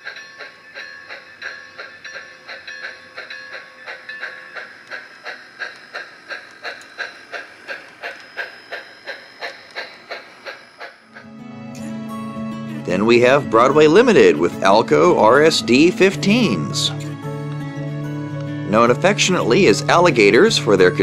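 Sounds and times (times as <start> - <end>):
model steam locomotive chuffs: 0.0 - 11.3, 12.9 - 17.0, 18.8 - 21.0.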